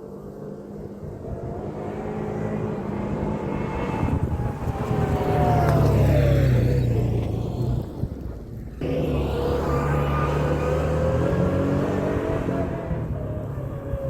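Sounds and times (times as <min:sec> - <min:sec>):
vehicle engine passing by: 0:00.1 - 0:14.0.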